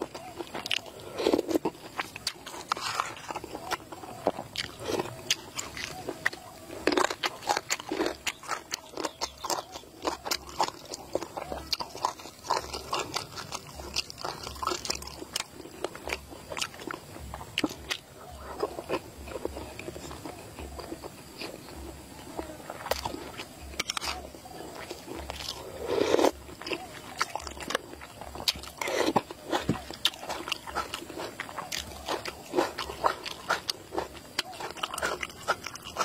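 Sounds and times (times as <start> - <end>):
person chewing wetly: 0.0 - 36.0.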